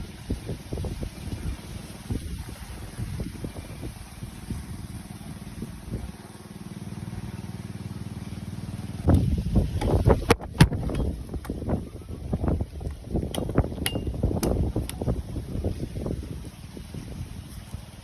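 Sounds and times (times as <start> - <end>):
wind buffeting microphone: 0.0 - 6.2, 9.0 - 18.0.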